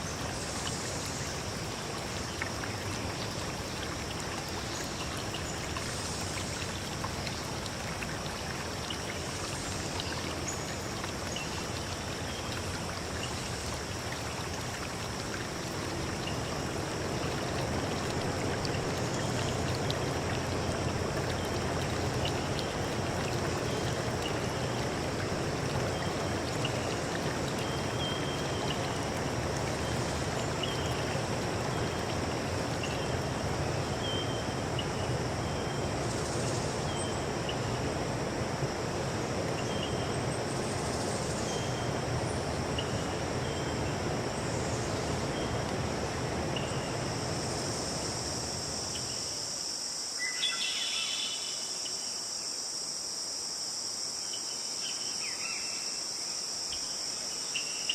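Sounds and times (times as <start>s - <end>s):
high insect chorus: 0.0s - 57.9s
stream water running: 0.0s - 57.9s.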